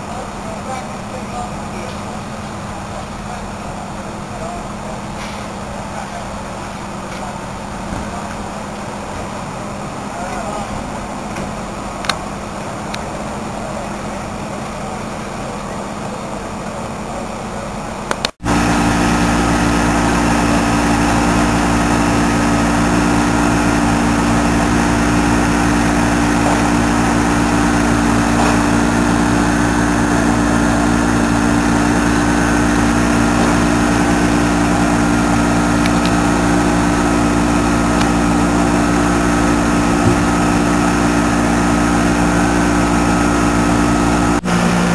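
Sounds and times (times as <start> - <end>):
large engine running steadily: 0.0 - 44.9
street noise: 0.0 - 44.9.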